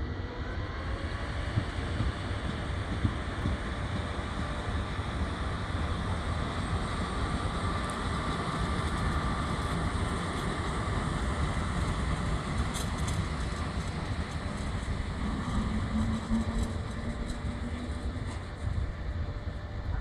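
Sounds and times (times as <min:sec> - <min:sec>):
faint high whine: 0:00.0 - 0:20.0
locomotive rolling rumble: 0:00.0 - 0:20.0.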